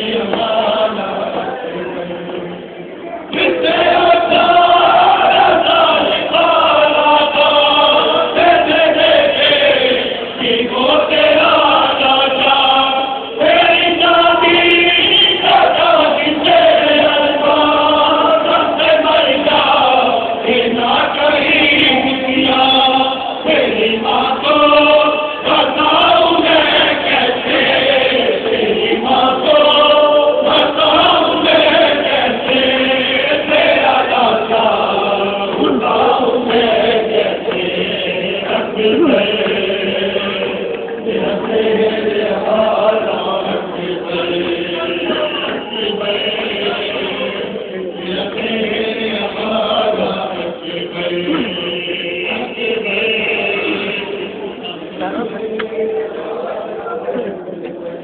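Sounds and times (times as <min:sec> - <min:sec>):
men chanting together: 0:03.3 - 0:54.3.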